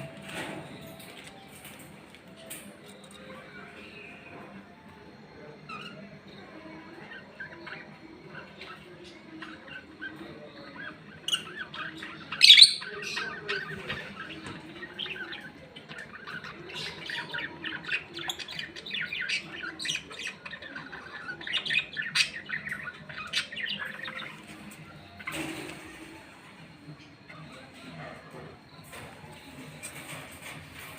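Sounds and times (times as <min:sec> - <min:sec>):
lovebirds chirping and squeaking: 0:00.0 - 0:30.9.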